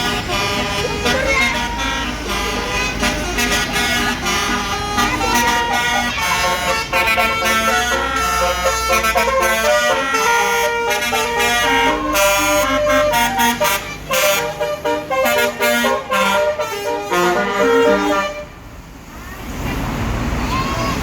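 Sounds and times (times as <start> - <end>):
bus musical horn playing tune: 0.0 - 18.6
low engine rumble: 0.0 - 21.0.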